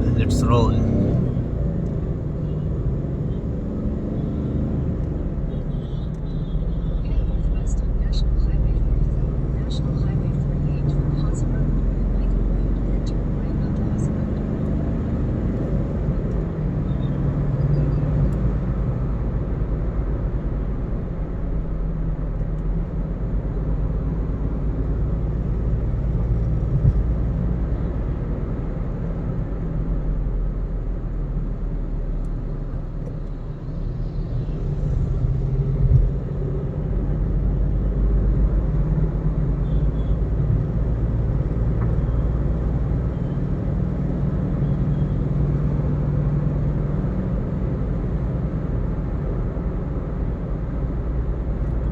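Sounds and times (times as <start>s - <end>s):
tyre and engine rumble: 0.0s - 51.9s.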